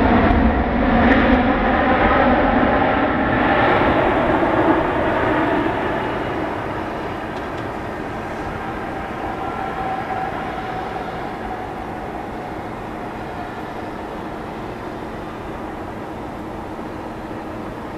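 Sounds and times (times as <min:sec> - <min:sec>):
faint engine whine: 0:00.0 - 0:17.9
jet engines rumbling: 0:00.0 - 0:17.9.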